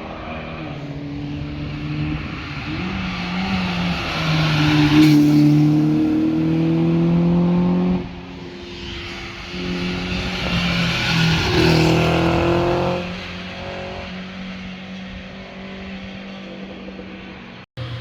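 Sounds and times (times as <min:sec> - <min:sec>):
cars accelerating past: 0:00.0 - 0:18.0.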